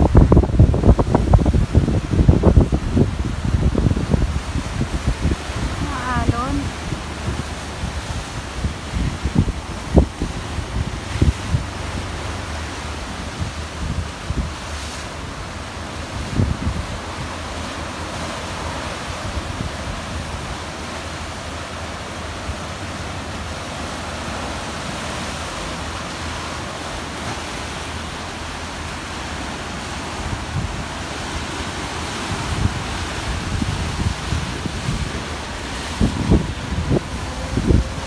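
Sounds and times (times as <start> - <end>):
waves breaking over rocks: 0.0 - 38.0
wind gusts on microphone: 0.0 - 38.0.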